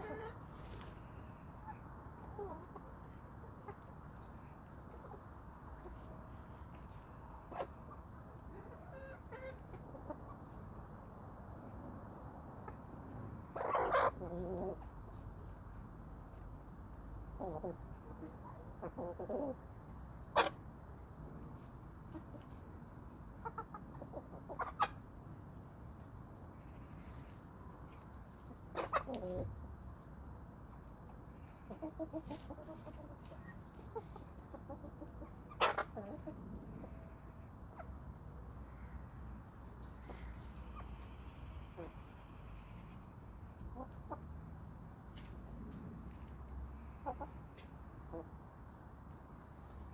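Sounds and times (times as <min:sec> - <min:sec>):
chickens clucking softly: 0:00.0 - 0:49.9.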